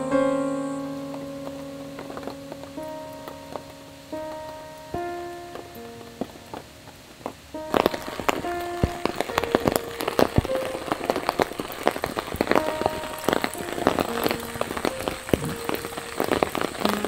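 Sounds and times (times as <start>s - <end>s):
soft background music: 0.0s - 17.0s
raindrops tapping: 0.8s - 17.0s.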